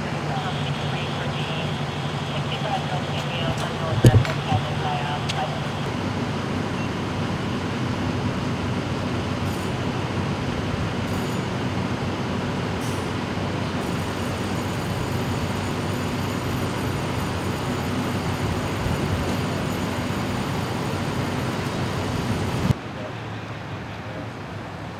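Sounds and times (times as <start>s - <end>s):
bus diesel engine idling: 0.0s - 24.9s.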